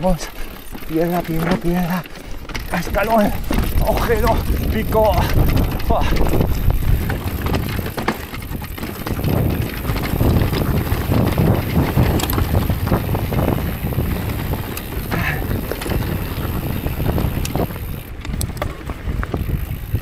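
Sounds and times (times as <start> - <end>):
bike knocks and rattles: 0.0 - 20.0
tyres crunching over stones: 0.0 - 20.0
wind buffeting microphone: 0.0 - 20.0.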